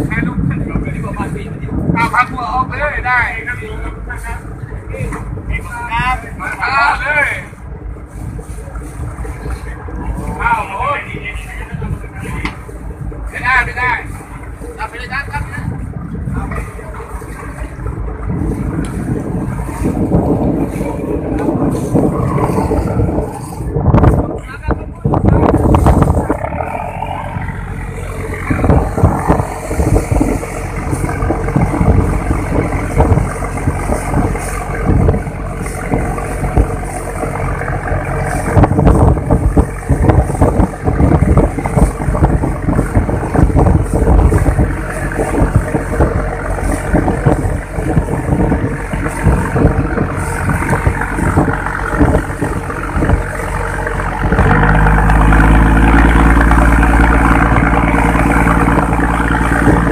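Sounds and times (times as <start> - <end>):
boat engine running: 0.0 - 59.9
water rushing past hull: 0.0 - 59.9
wind buffeting microphone: 0.0 - 59.9.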